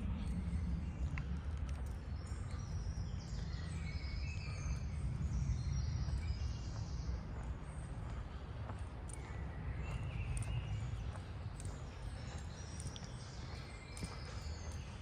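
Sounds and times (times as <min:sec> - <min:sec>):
songbirds singing: 0:00.0 - 0:15.0
steady low rumble: 0:00.0 - 0:15.0.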